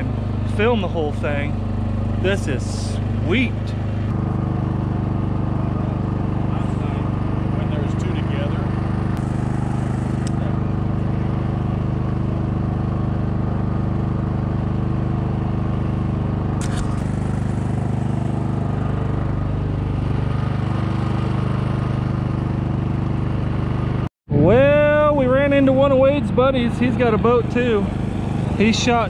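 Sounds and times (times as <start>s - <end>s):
small boat engine droning: 0.0s - 29.0s.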